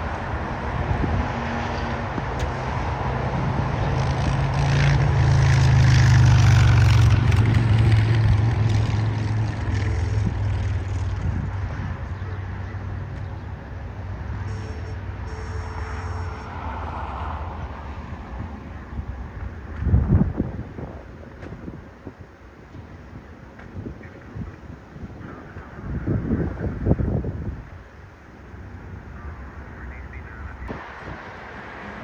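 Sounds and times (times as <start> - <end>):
jet airliner engines rumbling: 0.0 - 32.0.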